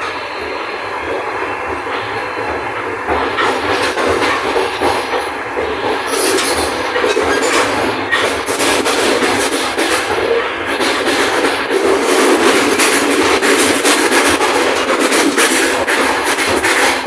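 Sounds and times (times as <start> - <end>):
train rumble: 0.0 - 17.0
train wheels clattering over rail joints: 0.0 - 17.0.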